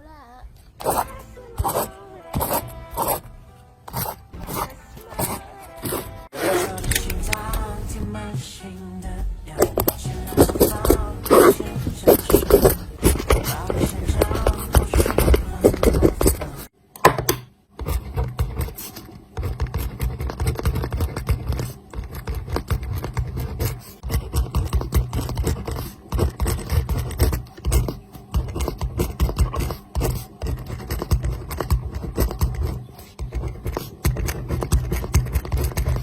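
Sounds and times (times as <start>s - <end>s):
pen scratching on paper: 0.8s - 3.3s, 3.9s - 6.9s, 9.7s - 16.7s, 17.8s - 36.0s.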